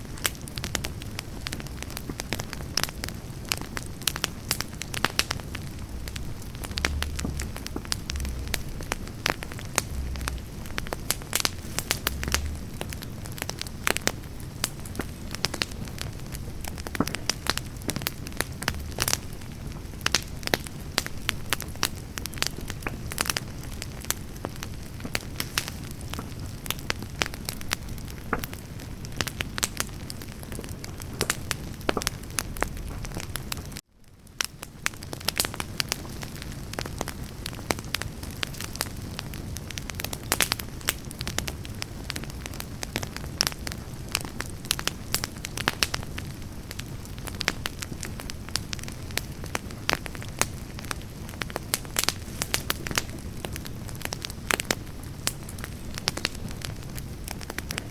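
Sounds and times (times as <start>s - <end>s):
campfire burning: 0.0s - 57.9s
logs crackling and popping: 0.0s - 57.9s.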